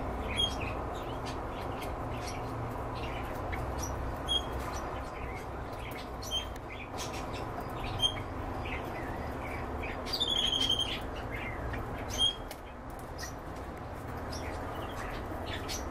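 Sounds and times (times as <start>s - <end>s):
canaries chirping: 0.0s - 15.9s
low background hum: 0.0s - 15.9s.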